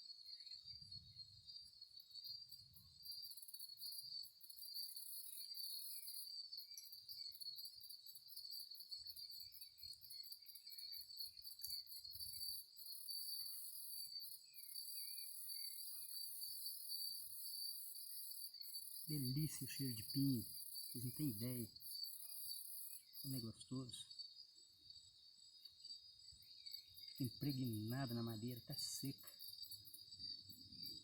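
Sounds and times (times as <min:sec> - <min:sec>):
faint bird chirps: 0:00.0 - 0:24.3, 0:26.3 - 0:31.0
insect high-pitched drone: 0:00.0 - 0:31.0
insect trill pulsing rapidly: 0:00.0 - 0:31.0.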